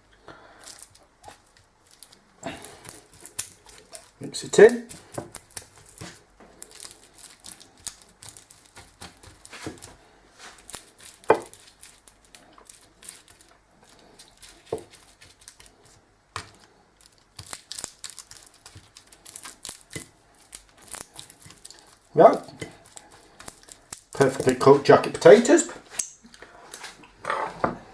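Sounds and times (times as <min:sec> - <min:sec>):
mashing potato scraping: 0:00.0 - 0:27.7.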